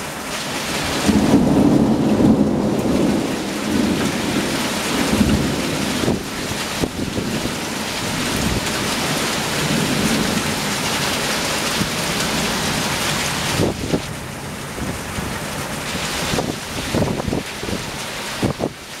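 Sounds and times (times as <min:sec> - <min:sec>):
torrential rain on rooftops: 0:00.0 - 0:19.0.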